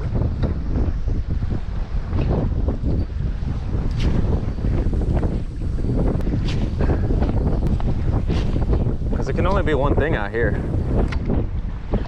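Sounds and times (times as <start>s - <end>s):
gusty wind buffeting microphone: 0.0s - 12.0s.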